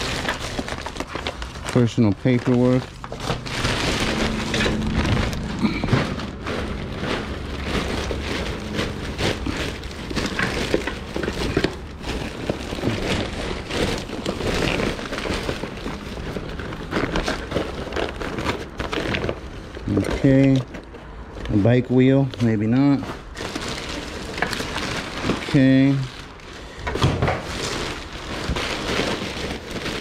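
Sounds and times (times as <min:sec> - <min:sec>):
papers rustling and crinkling: 0:00.0 - 0:30.0.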